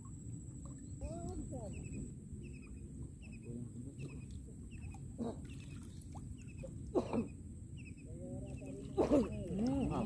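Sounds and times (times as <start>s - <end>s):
low wind: 0.0s - 10.0s
water noise: 0.0s - 10.0s
bird chirping: 0.8s - 10.0s.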